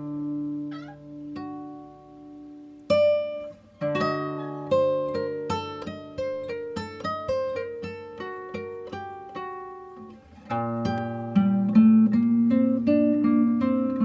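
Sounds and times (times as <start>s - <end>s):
guitar music: 0.0s - 14.0s.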